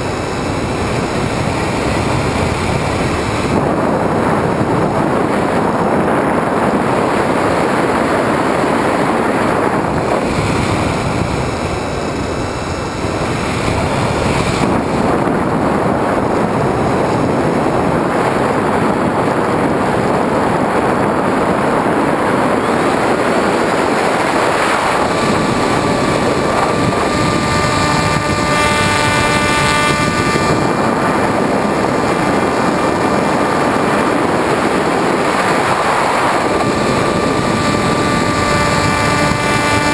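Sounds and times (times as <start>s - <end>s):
air rushing: 0.0s - 39.9s
electric motor and propeller buzz: 0.0s - 39.9s.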